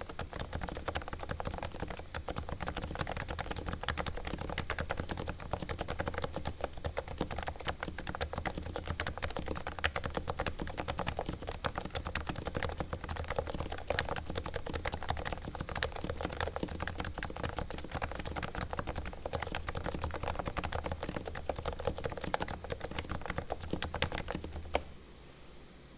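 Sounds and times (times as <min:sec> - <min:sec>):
keyboard typing: 0:00.0 - 0:25.0.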